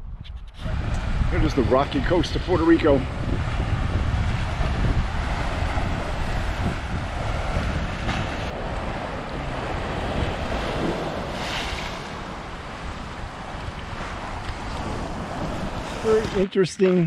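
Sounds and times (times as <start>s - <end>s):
wind rumbling on microphone: 0.0s - 16.5s
loud water splashes: 0.6s - 16.4s
waves breaking on rocky shore: 0.6s - 16.4s.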